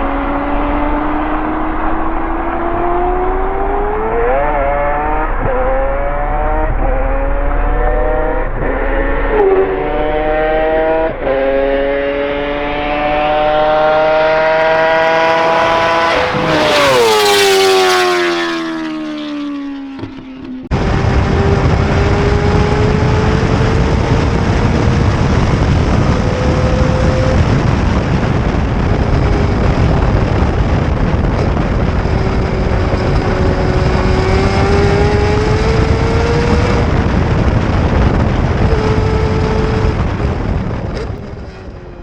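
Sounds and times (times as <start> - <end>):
rotary engine revving loudly: 0.0 - 20.1, 20.7 - 42.0.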